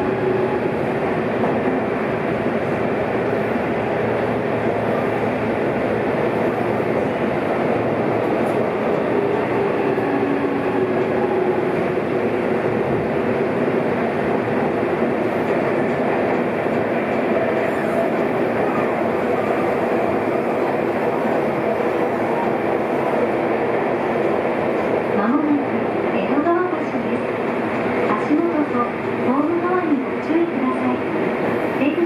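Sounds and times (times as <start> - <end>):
train rumbling through tunnel: 0.0 - 32.0.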